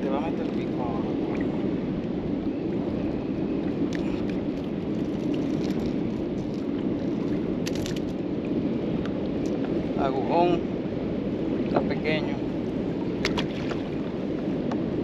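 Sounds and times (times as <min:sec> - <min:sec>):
water around kayak: 0:00.0 - 0:15.0
wind on microphone: 0:00.0 - 0:15.0.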